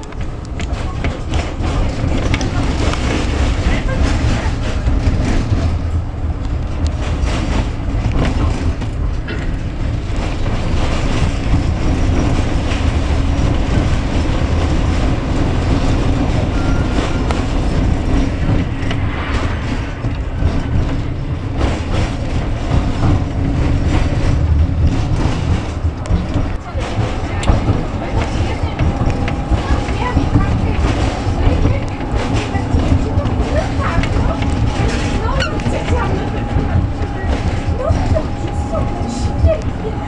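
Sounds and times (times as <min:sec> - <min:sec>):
tram rumbling: 0:00.0 - 0:40.0
wheels clicking on rails: 0:00.0 - 0:40.0.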